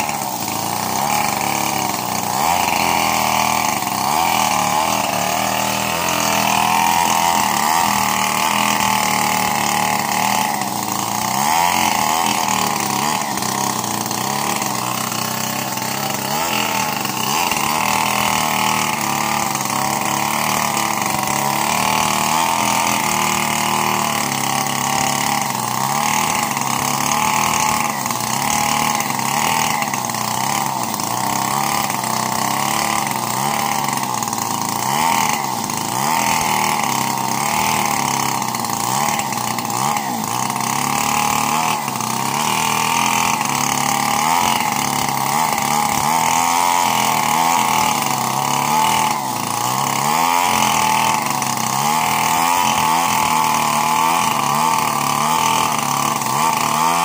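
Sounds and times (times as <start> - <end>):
chainsaw cutting timber: 0.0 - 57.0.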